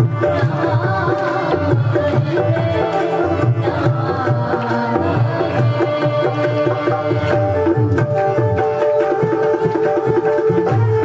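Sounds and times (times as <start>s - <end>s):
hand drum rhythm: 0.0s - 11.0s
harmonium chords: 0.0s - 11.0s
people singing into microphones: 0.0s - 11.0s.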